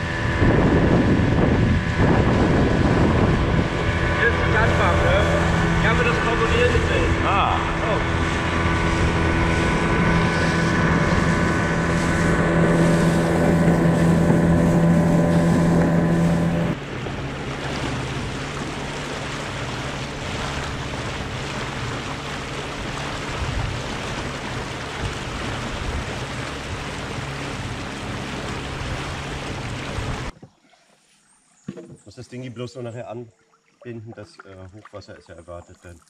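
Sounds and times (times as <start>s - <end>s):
water hissing along hull: 0.0s - 31.2s
outboard motor droning: 0.0s - 36.0s.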